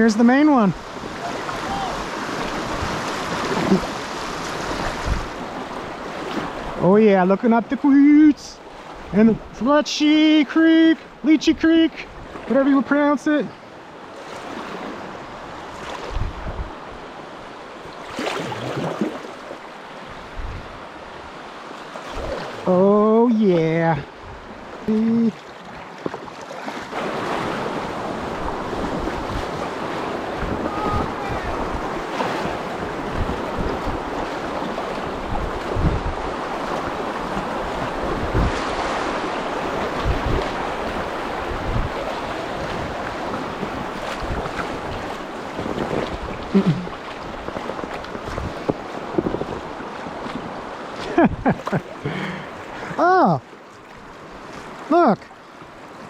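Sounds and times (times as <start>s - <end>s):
river water rippling and splashing: 0.0s - 56.0s.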